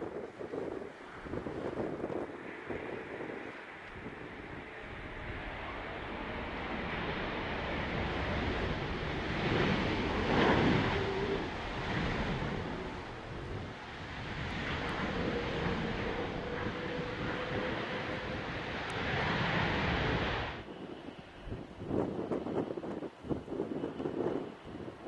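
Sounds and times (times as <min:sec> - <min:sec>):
jet engine roar: 0:00.0 - 0:25.0
wind buffeting microphone: 0:00.0 - 0:25.0.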